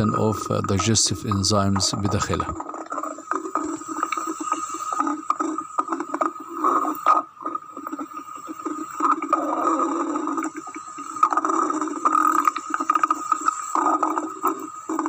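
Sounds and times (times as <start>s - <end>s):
stomach gurgling and rumbling: 0.0s - 15.0s.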